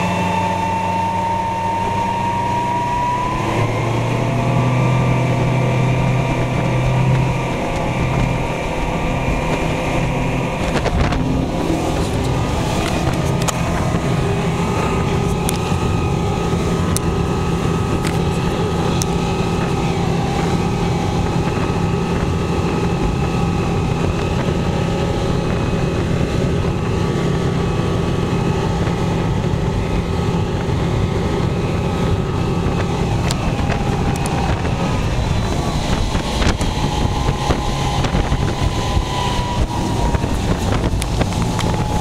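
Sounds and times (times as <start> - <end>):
outboard motor running: 0.0 - 42.0
wind on microphone: 0.0 - 42.0.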